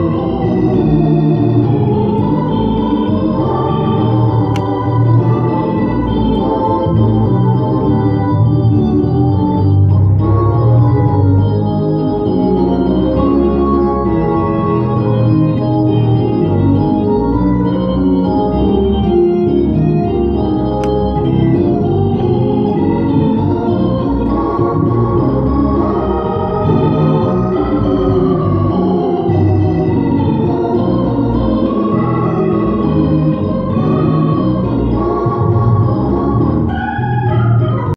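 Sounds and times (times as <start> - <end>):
organ playing chords and melody: 0.0 - 37.9.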